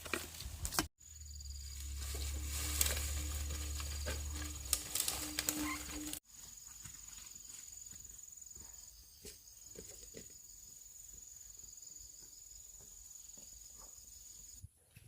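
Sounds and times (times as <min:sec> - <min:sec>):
insects trilling: 0:01.0 - 0:14.6.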